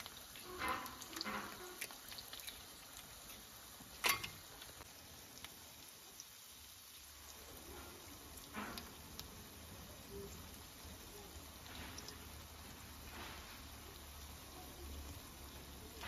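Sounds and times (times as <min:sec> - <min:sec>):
eggs and meat sizzling in a pan: 0:00.0 - 0:16.0.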